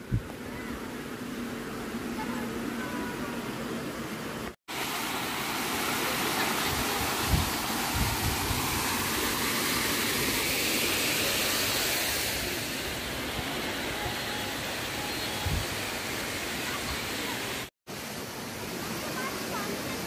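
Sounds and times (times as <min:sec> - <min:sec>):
stream and waterfall rushing: 0:00.0 - 0:20.0.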